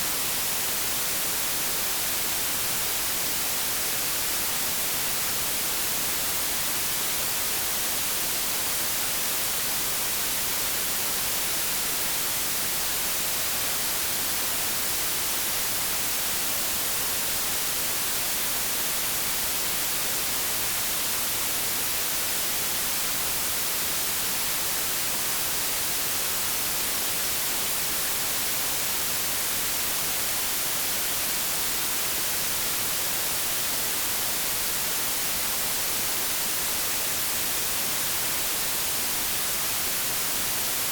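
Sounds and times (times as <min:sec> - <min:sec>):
white-noise static hiss: 0:00.0 - 0:40.9.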